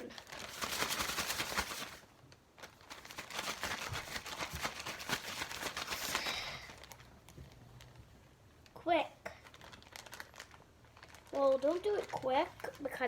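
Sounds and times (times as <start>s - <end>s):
plastic bag crinkling: 0.0s - 8.0s, 8.6s - 13.0s.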